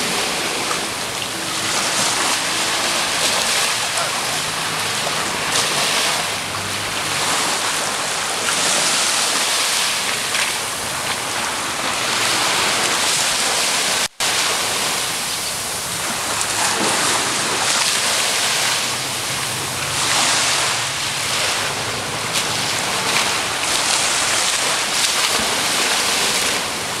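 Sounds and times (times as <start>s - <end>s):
sea surf washing ashore: 0.0s - 27.0s.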